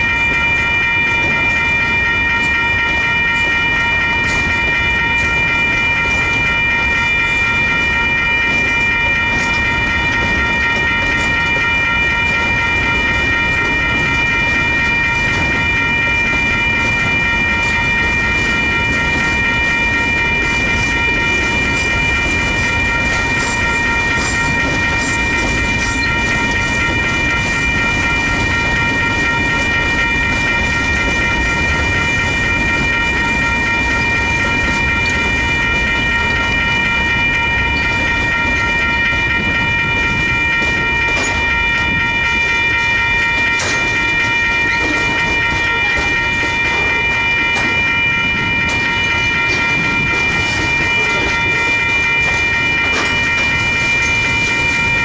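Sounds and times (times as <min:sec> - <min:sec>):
crossing warning bell: 0:00.0 - 0:55.0
freight train wheels clicking: 0:07.8 - 0:55.0.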